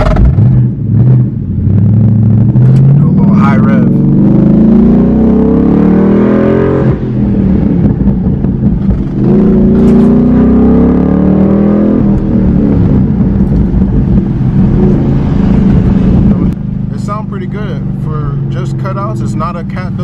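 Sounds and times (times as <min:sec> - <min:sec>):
car engine revving hard: 0:00.0 - 0:08.2, 0:08.8 - 0:20.0.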